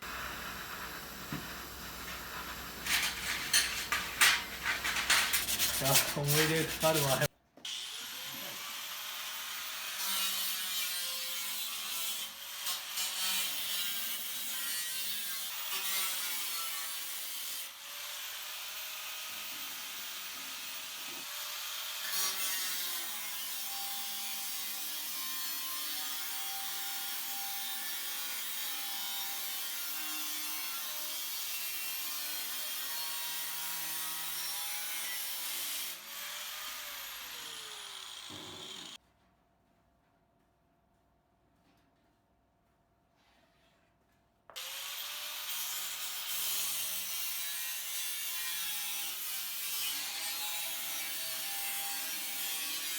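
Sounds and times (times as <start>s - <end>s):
power tool cutting sheet steel: 0.0s - 39.0s, 44.6s - 52.9s.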